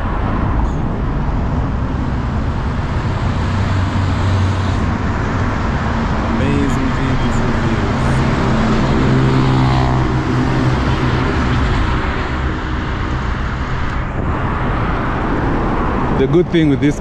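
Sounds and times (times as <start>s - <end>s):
road traffic rushing: 0.0s - 17.0s
vehicle engine hum: 0.0s - 17.0s.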